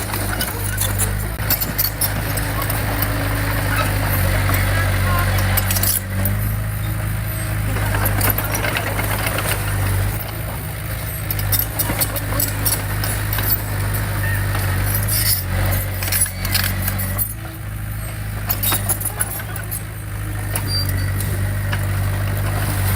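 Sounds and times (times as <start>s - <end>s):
diesel machinery running: 0.0s - 22.9s
metallic clanking: 0.0s - 22.9s.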